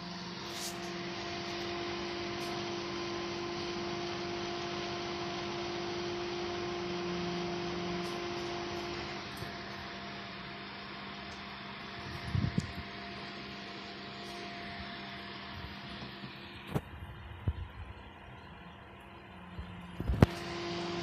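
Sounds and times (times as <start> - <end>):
computer fans rushing: 0.0 - 21.0
constant hum: 0.0 - 21.0.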